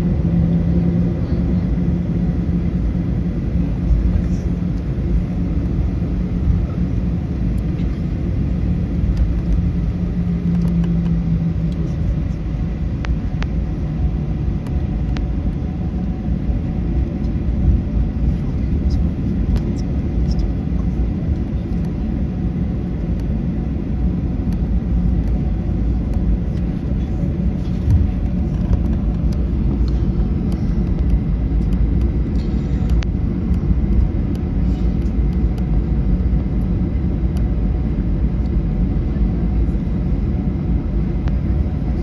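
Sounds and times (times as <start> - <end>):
airplane cabin rumble: 0.0 - 42.0.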